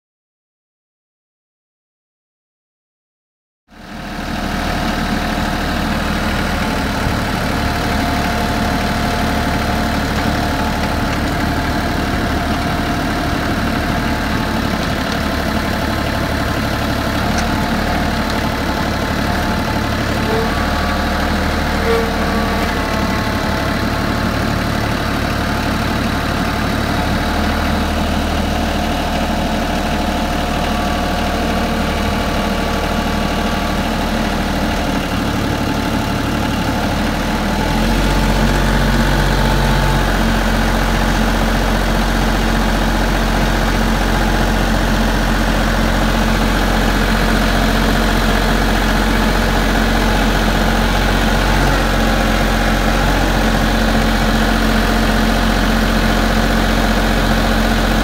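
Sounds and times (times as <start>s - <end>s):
tractor engine running: 3.8s - 58.0s
auger boring into ground: 4.2s - 58.0s.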